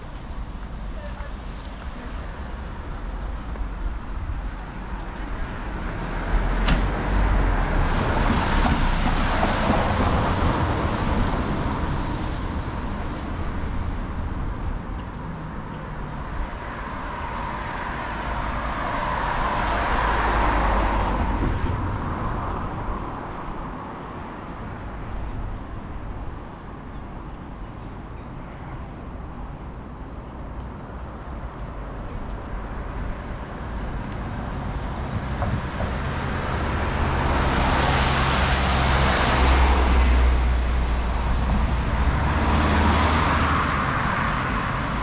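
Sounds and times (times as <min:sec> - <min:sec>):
cars driving past: 0:01.6 - 0:28.1, 0:28.9 - 0:45.0.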